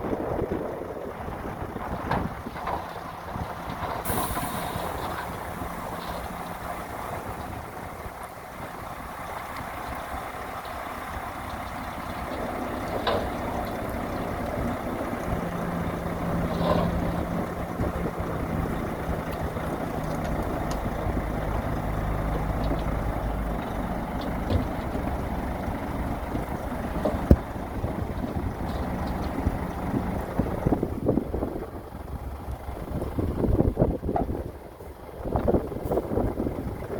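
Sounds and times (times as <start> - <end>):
heavy machinery diesel engine: 0.0 - 36.9.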